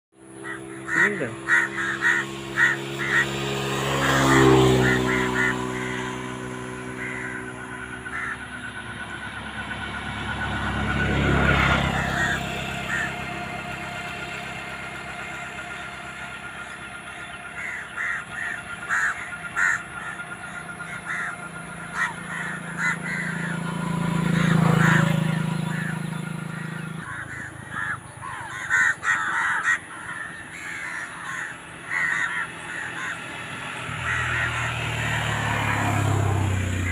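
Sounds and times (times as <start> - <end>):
crows cawing: 0.2 - 36.9
vehicle passing by: 0.2 - 36.9.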